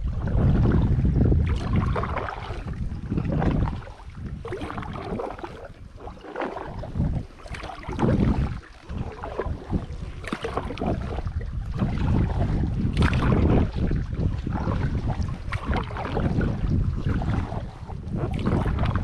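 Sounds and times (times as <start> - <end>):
paddle splashing in water: 0.0 - 19.0
wind rumble on microphone: 0.0 - 19.0.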